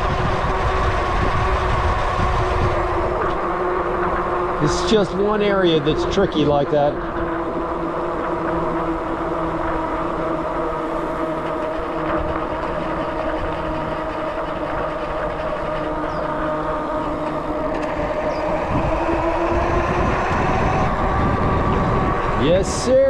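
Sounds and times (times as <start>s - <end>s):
vehicle running hum and rumble: 0.0s - 23.0s.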